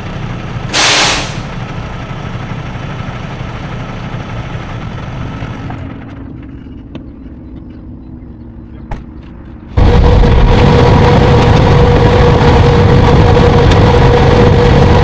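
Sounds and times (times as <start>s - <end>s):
diesel truck engine rumbling: 0.0s - 15.0s
road and air noise: 0.0s - 15.0s.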